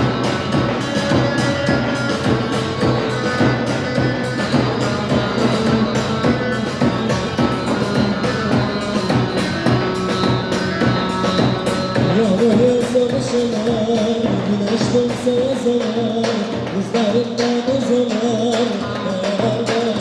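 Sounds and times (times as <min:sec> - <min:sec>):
plucked strings: 0:00.0 - 0:16.4
live band dance music: 0:00.0 - 0:20.0
person singing: 0:01.6 - 0:20.0.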